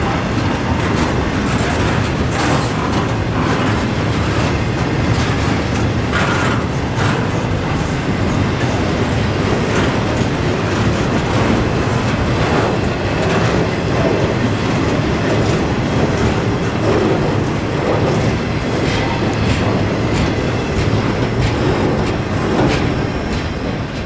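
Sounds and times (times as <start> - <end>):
steel wheels rumbling on rail: 0.0 - 24.0
wheels clacking over rail joints: 0.0 - 24.0.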